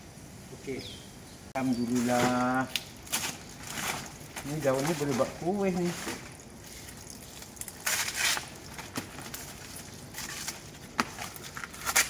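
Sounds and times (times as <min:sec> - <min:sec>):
dry leaves rustling and crackling: 0:01.8 - 0:12.0.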